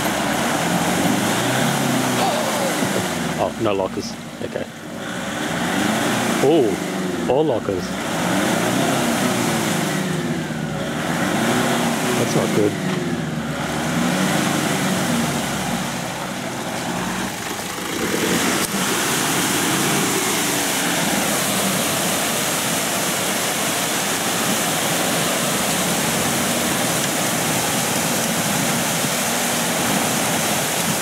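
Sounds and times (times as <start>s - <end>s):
engine revving: 0.0s - 31.0s
spinning tyres flinging mud: 0.0s - 31.0s.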